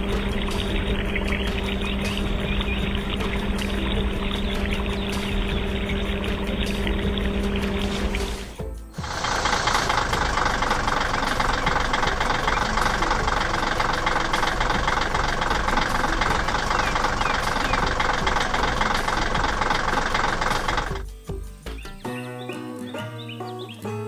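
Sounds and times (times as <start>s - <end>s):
construction vehicle engine rattling: 0.0s - 21.1s.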